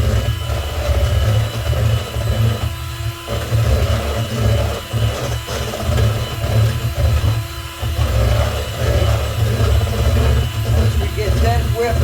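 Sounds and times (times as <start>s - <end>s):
electric mixer whipping batter: 0.0s - 12.0s.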